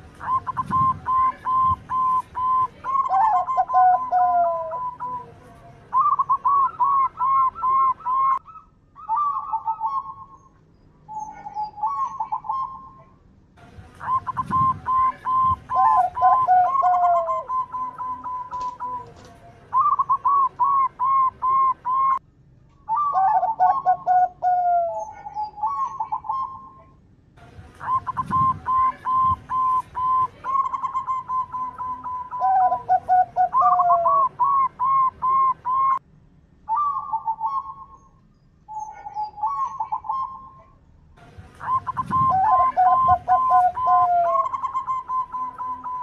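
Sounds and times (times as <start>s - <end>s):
dove cooing: 0.0s - 10.4s, 11.1s - 13.0s, 14.0s - 22.2s, 22.9s - 26.8s, 27.8s - 36.0s, 38.7s - 40.8s, 41.6s - 46.0s.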